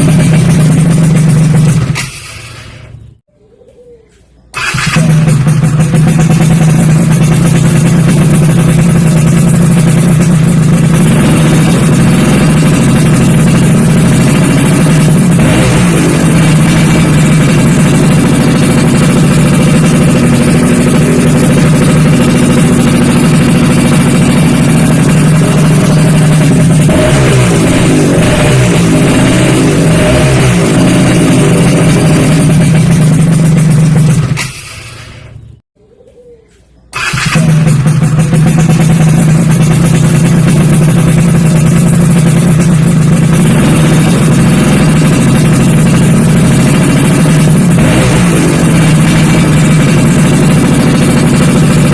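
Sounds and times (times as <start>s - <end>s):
two-stroke engine idling and revving: 0.0s - 3.2s, 4.5s - 35.6s, 37.0s - 51.9s.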